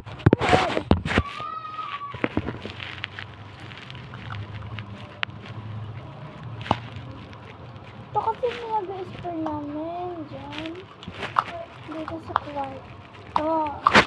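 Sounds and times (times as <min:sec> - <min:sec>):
handling clicks and crackles: 0:00.0 - 0:14.0
low steady hum: 0:00.0 - 0:14.0.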